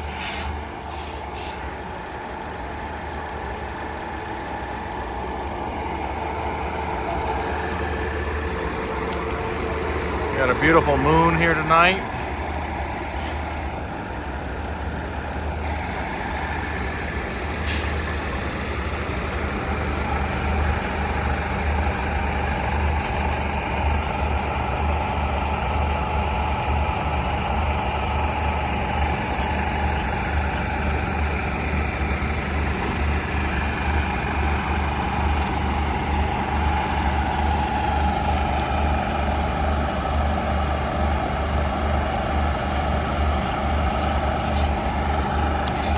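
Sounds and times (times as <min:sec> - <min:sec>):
train diesel engine idling: 0:00.0 - 0:45.9.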